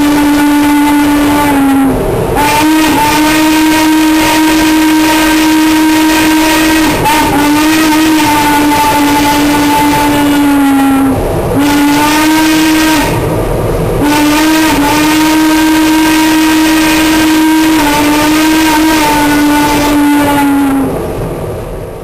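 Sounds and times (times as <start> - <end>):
steam locomotive whistle blasts: 0.0 - 21.2.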